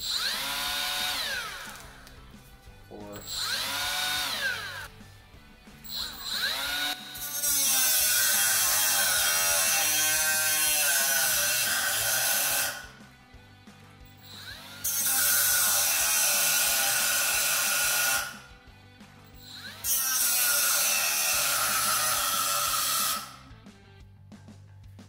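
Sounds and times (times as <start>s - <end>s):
die grinder spinning up and down: 0.0s - 2.6s, 3.2s - 13.0s, 14.0s - 18.5s, 19.4s - 23.5s
grinder cutting through metal: 0.0s - 5.0s, 5.8s - 13.0s, 14.0s - 18.5s, 19.3s - 23.5s.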